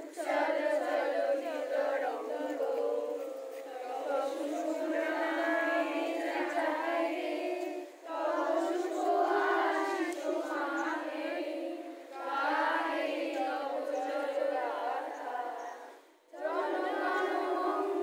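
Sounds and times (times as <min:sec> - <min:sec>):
children and women singing: 0:00.0 - 0:18.0.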